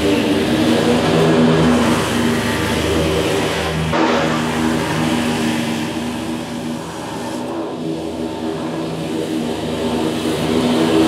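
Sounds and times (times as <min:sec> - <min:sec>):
mower engine running under load: 0:00.0 - 0:11.0.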